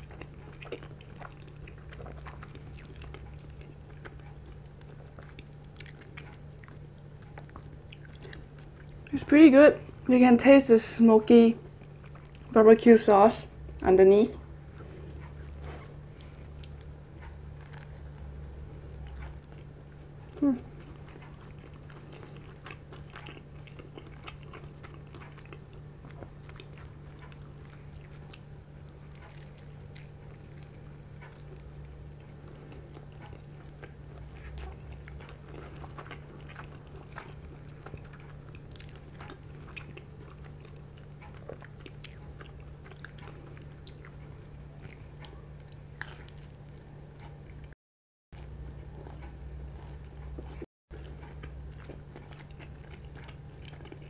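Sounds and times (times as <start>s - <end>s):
chewing and biting pizza: 0.0s - 9.2s, 11.6s - 12.5s, 14.4s - 54.0s
steady low hum: 0.0s - 54.0s.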